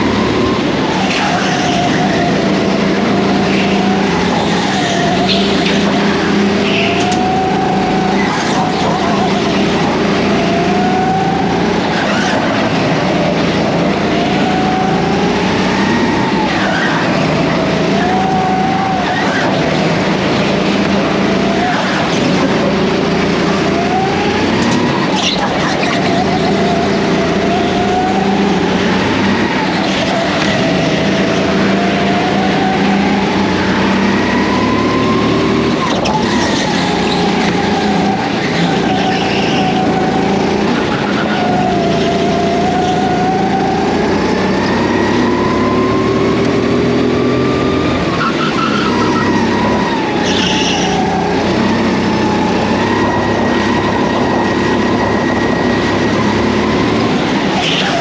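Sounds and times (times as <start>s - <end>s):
go-kart motor revving: 0.0s - 58.0s.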